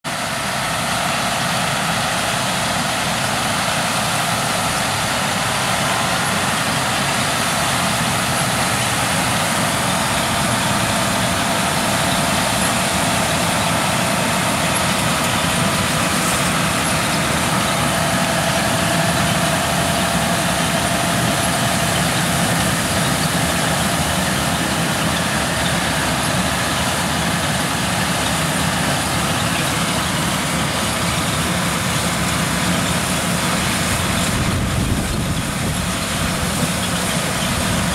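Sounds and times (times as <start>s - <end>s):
tractor engine: 0.0s - 37.9s
harvester machinery running: 0.1s - 37.9s.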